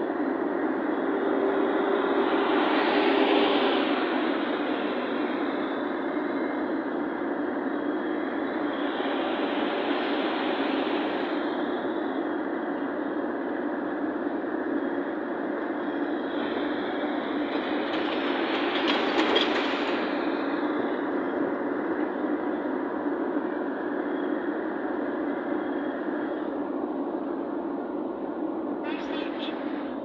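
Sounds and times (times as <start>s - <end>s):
road and tyre noise inside car: 0.0s - 30.0s.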